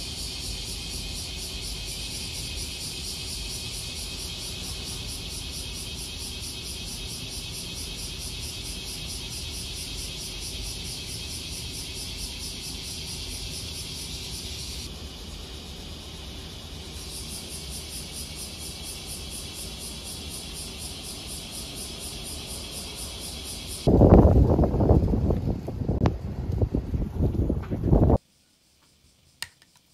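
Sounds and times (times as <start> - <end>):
insects buzzing: 0.0 - 26.7, 27.3 - 29.9.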